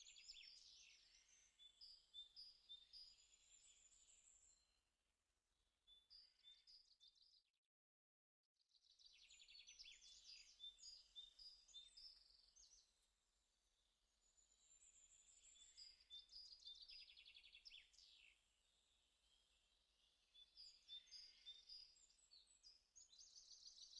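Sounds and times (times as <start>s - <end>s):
songbirds chirping and trilling: 0.0s - 4.8s, 5.9s - 7.4s, 8.7s - 23.9s.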